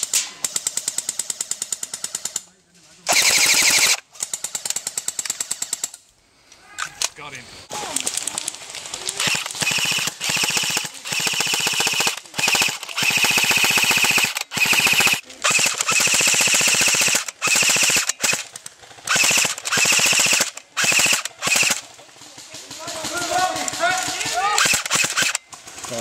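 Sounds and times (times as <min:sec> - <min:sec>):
airsoft guns firing full-auto: 0:00.0 - 0:02.5, 0:03.1 - 0:06.0, 0:07.7 - 0:26.0.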